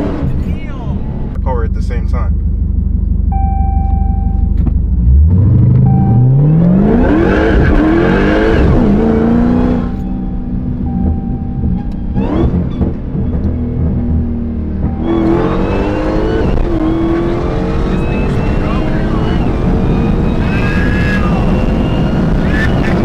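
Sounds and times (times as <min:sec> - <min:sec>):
car engine revving: 0:00.0 - 0:23.0
high supercharger whine: 0:00.0 - 0:23.0.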